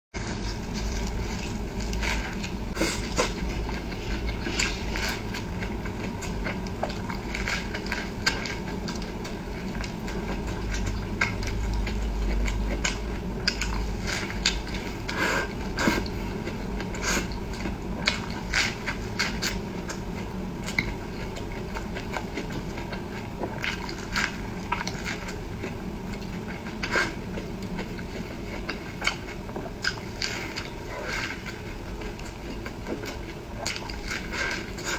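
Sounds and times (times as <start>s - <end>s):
chewing and biting: 0.2s - 34.9s.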